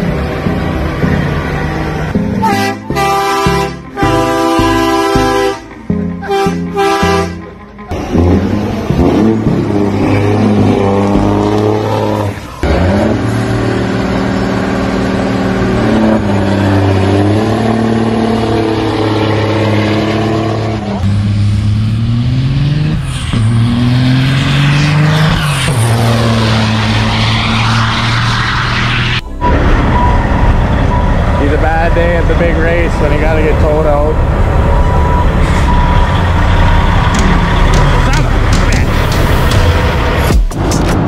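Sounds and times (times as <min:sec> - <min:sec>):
diesel truck engines at full throttle: 0:00.0 - 0:41.0.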